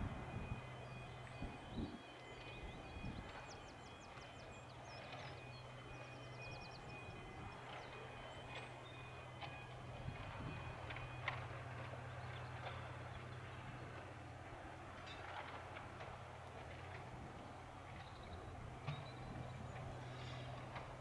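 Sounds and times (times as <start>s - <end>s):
tractor diesel engine hum: 0.0s - 21.0s.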